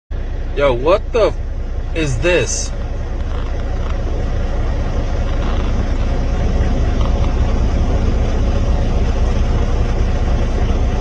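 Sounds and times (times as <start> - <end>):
diesel truck engine rumbling: 0.1 - 11.0
road noise: 0.1 - 11.0.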